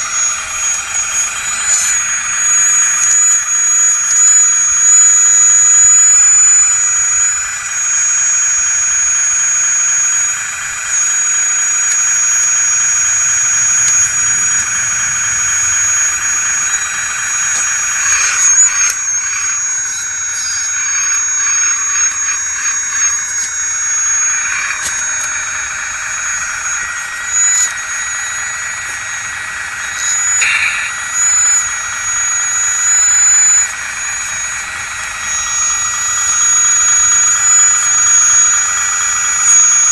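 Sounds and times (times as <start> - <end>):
toy excavator motor whine: 0.0 - 39.9.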